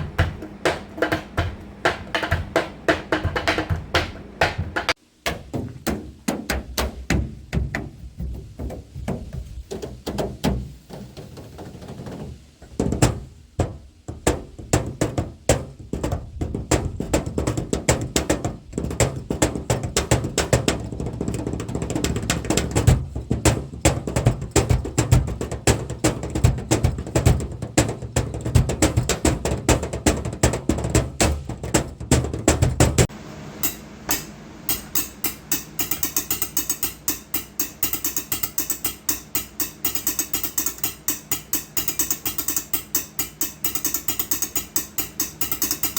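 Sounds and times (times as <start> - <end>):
drumming on objects: 0.0 - 45.9.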